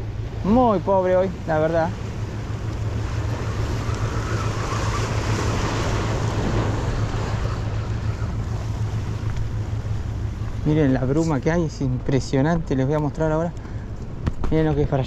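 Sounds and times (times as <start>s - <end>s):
surf washing against rocks: 0.0s - 13.6s
wind buffeting microphone: 0.0s - 15.0s.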